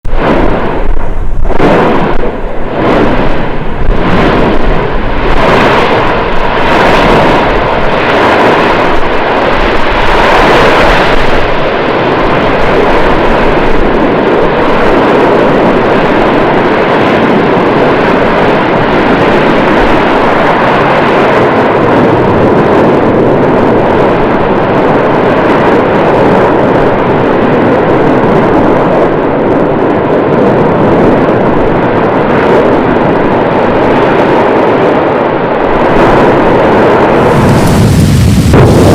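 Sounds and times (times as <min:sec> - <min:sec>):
loud continuous rumble: 0:00.0 - 0:38.9
volcanic explosive blasts: 0:00.0 - 0:38.9.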